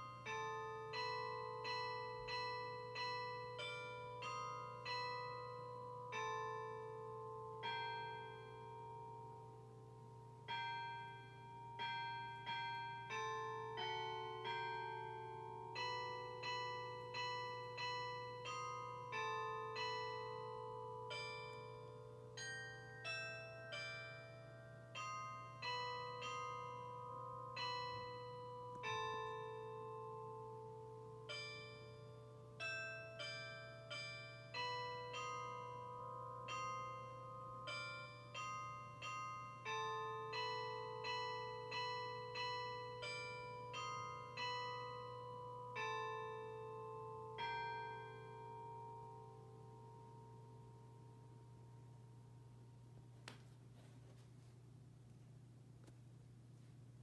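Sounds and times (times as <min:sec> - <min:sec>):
electronic carillon bells playing hymn: 0:00.0 - 0:53.2.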